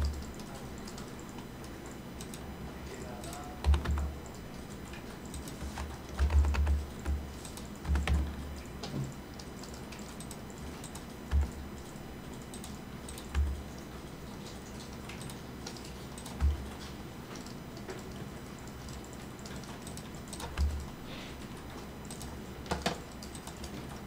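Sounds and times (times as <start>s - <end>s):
keyboard and mouse clicks: 3.0s - 24.0s.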